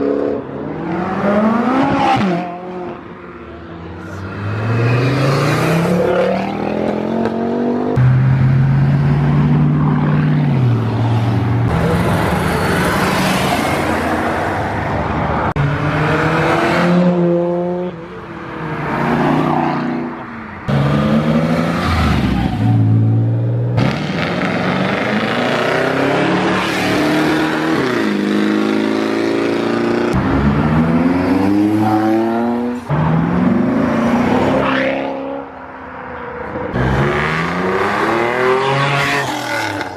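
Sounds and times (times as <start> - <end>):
cars accelerating hard: 0.0 - 3.0, 3.9 - 35.6, 36.7 - 39.9.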